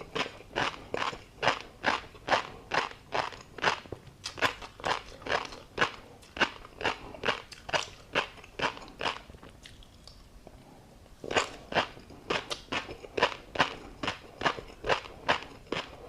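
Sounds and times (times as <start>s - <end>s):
crunchy chewing: 0.0s - 10.3s, 11.2s - 16.0s.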